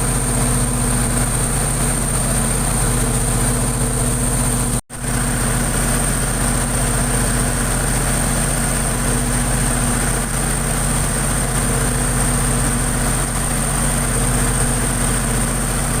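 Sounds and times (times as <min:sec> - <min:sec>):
diesel generator drone: 0:00.0 - 0:16.0.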